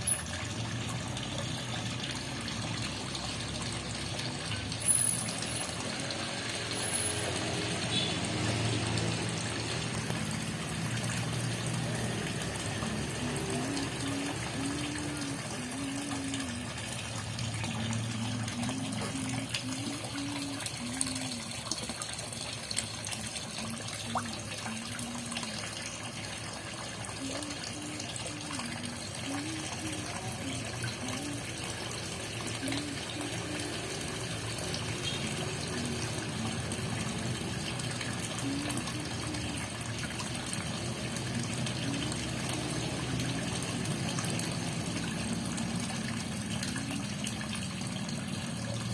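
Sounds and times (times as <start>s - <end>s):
water running into pond: 0.0s - 48.9s.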